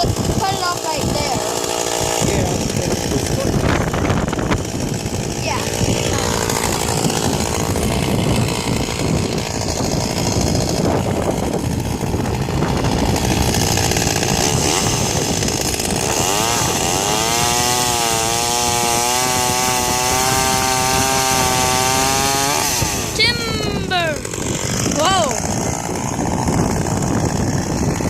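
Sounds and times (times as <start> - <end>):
chainsaw engine whining: 0.0 - 28.0.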